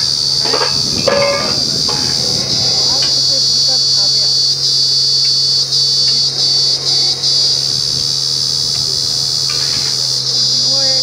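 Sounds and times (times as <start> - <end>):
drilling rig humming: 0.0 - 11.0
high-pitched shrill: 0.0 - 11.0.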